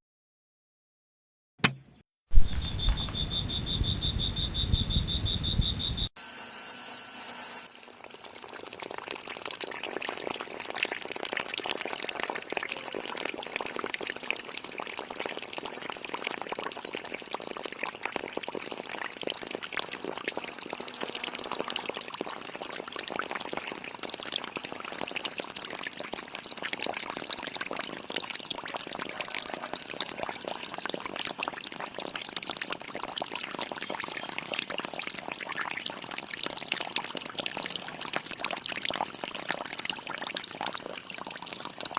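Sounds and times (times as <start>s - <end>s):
water pouring and splashing: 7.6s - 41.9s.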